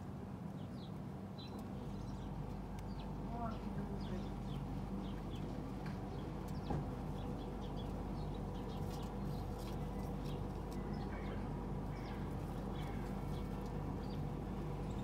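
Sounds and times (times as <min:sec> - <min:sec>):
steady low hum: 0:00.0 - 0:15.0
small birds chirping: 0:00.5 - 0:15.0.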